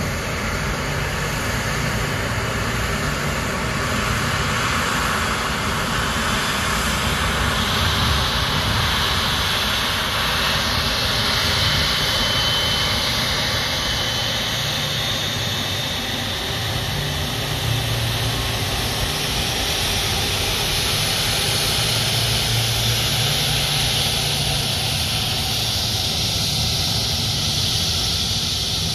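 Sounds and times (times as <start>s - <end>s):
jet engine whine and rumble: 0.0s - 28.9s.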